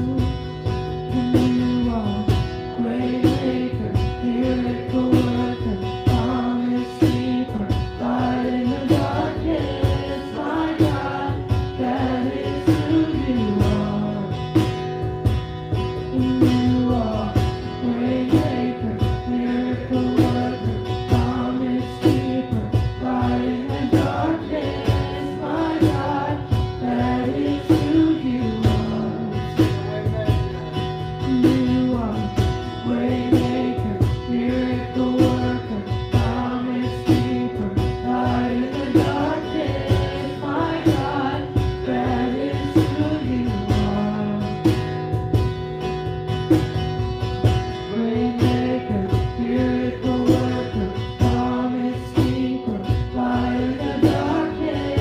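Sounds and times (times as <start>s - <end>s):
woman singing: 0.0s - 14.6s, 16.0s - 29.8s, 31.2s - 44.9s, 47.8s - 55.0s
cajon beat: 0.0s - 55.0s
strummed acoustic guitar: 0.0s - 55.0s.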